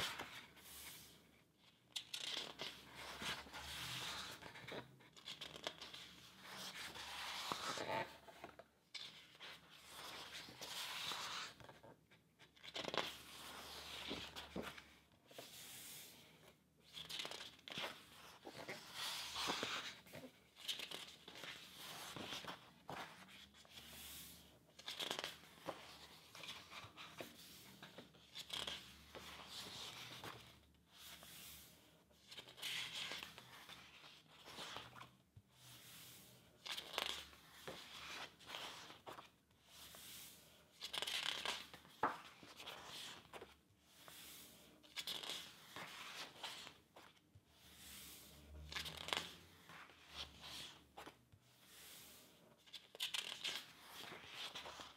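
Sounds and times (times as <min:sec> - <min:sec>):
book pages turning: 0:00.0 - 0:01.1, 0:01.9 - 0:31.5, 0:32.3 - 0:35.1, 0:36.6 - 0:40.2, 0:40.8 - 0:47.2, 0:47.9 - 0:51.2, 0:51.9 - 0:54.9.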